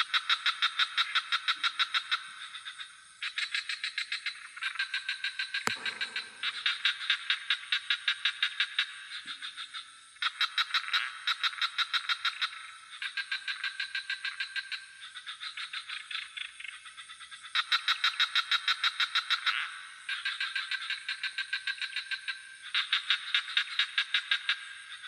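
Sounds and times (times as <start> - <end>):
frogs calling in pulsed trills: 0.0 - 25.0
high insect drone: 0.2 - 25.0.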